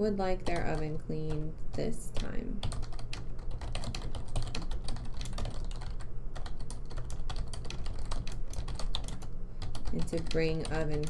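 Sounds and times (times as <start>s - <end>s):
computer keyboard typing: 0.4s - 1.4s, 2.2s - 11.0s.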